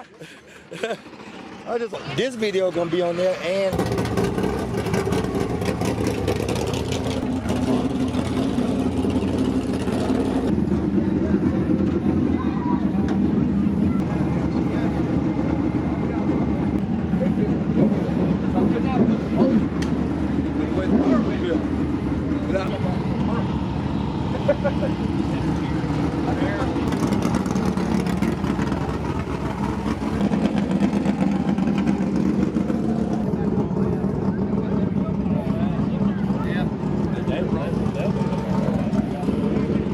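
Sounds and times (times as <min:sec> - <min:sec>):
race car engines running: 0:00.0 - 0:39.9.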